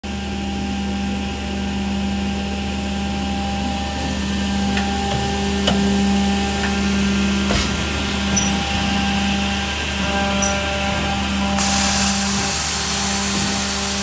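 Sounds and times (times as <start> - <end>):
edgebander motor hum: 0.8 - 14.0.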